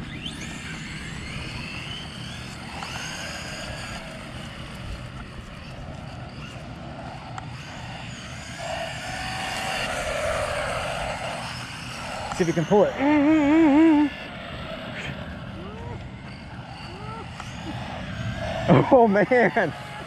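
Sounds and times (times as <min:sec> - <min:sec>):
rc car electric motors whining: 0:00.0 - 0:20.0.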